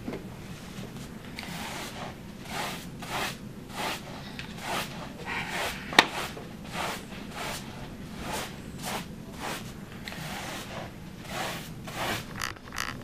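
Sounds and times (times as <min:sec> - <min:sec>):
broom sweeping a floor: 0:00.4 - 0:12.3.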